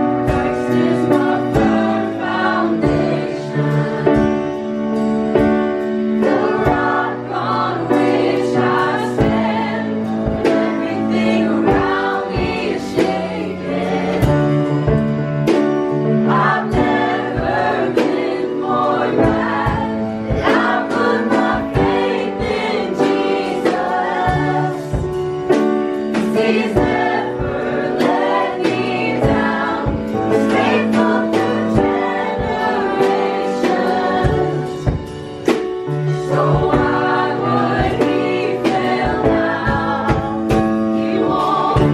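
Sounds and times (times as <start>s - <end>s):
gospel choir song: 0.0s - 41.9s.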